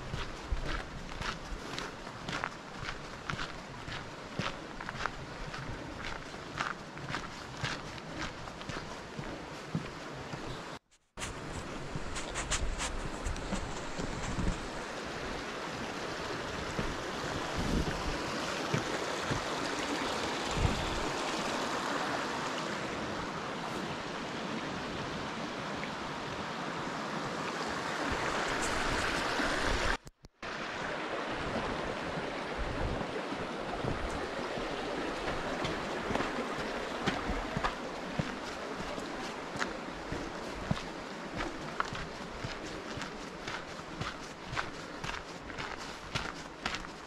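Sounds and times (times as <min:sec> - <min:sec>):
mountain stream rushing: 0:00.0 - 0:47.0.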